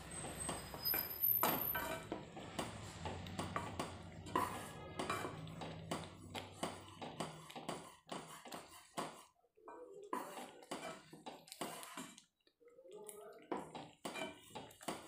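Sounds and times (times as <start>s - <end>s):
spoon scraping metal pan: 0.0s - 12.2s, 13.6s - 15.0s.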